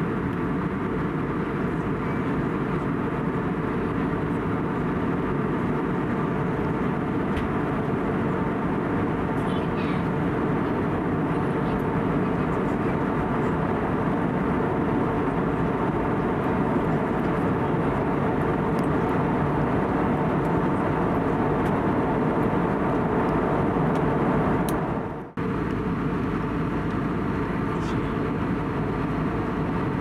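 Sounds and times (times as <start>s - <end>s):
airflow in aircraft cabin: 0.0s - 30.0s
jet engines humming: 0.0s - 30.0s.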